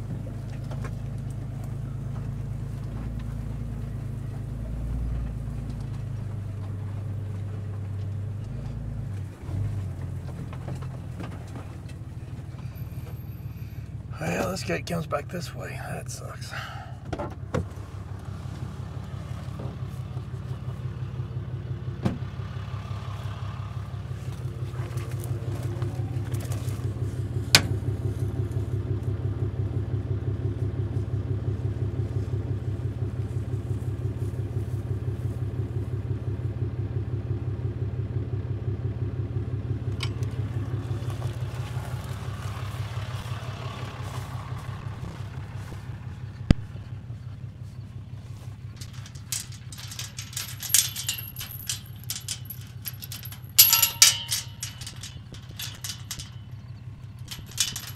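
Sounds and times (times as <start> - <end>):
truck engine idling: 0.0 - 57.9.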